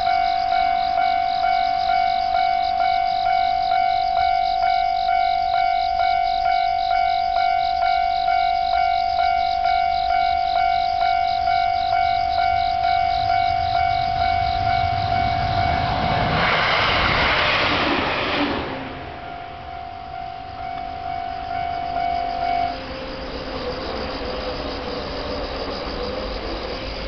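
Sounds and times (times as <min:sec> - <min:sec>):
level-crossing alarm dinging: 0:00.0 - 0:27.0
railcar rushing past: 0:00.0 - 0:27.0.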